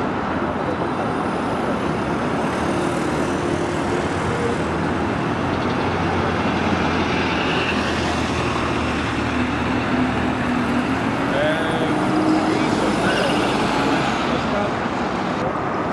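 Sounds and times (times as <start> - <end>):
bus engine humming: 0.0 - 15.9
city street traffic: 0.0 - 15.9.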